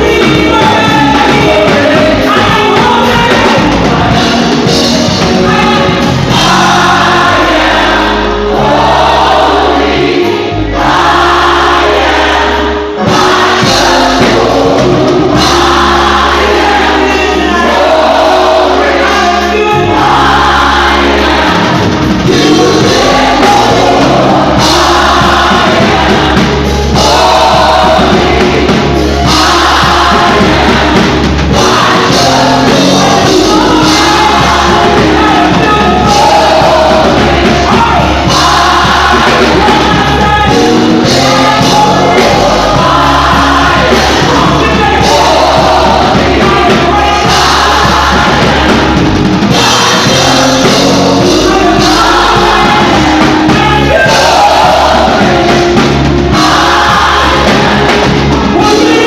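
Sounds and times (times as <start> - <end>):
band playing: 0.0 - 59.0
choir singing gospel: 0.0 - 59.0
steady bass line: 0.0 - 59.0.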